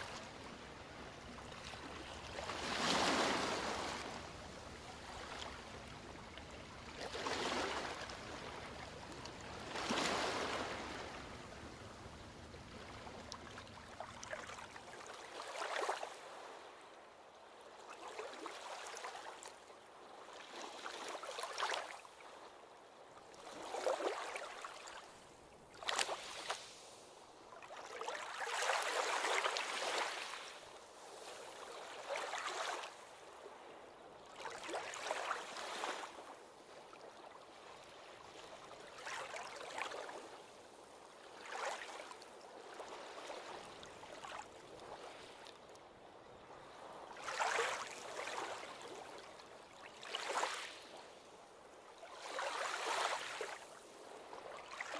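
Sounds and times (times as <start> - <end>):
small waves washing onto shore: 0.0 - 54.9.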